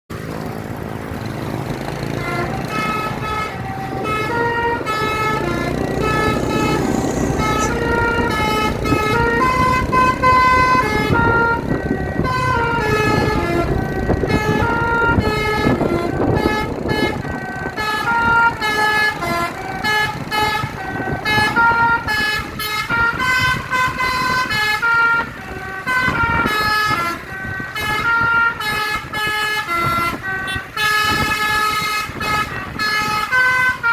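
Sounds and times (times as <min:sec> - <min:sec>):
bus engine rumble: 0:00.1 - 0:33.9
musical air horn melody: 0:02.0 - 0:33.9.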